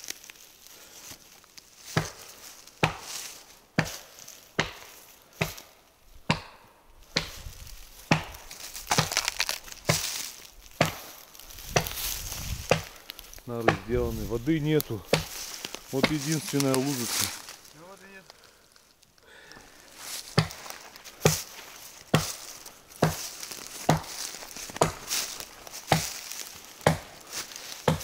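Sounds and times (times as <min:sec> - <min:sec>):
footsteps on forest floor: 0:00.0 - 0:28.0.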